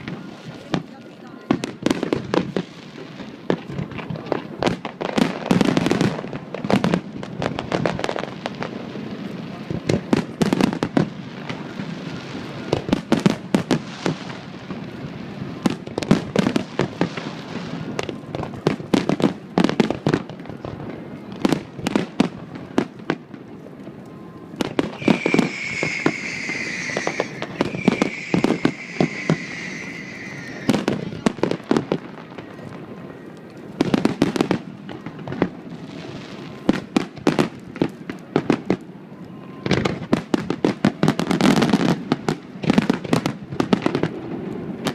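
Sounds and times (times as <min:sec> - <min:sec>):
fireworks bangs and pops: 0:00.0 - 0:39.0, 0:39.6 - 0:44.9
whistling fireworks: 0:00.0 - 0:44.9.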